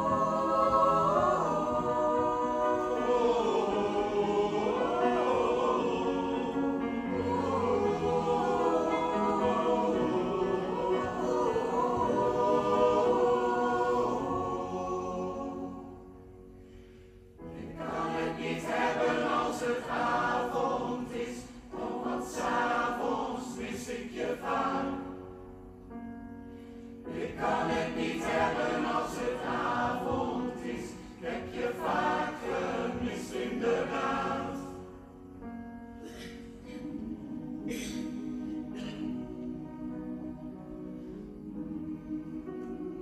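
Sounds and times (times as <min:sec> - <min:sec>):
choir singing in harmony: 0:00.0 - 0:43.0
piano accompaniment: 0:00.0 - 0:43.0.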